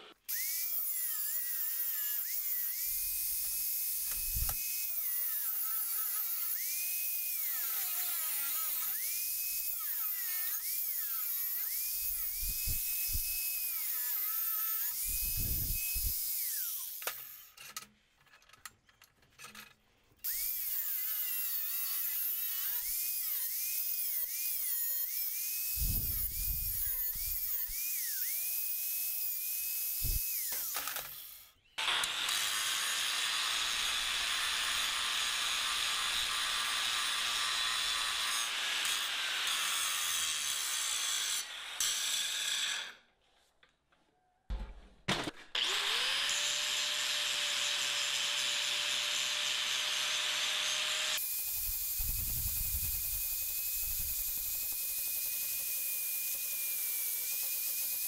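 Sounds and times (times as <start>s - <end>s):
angle grinder grinding steel: 0.0s - 17.8s, 19.4s - 43.0s, 45.6s - 58.0s.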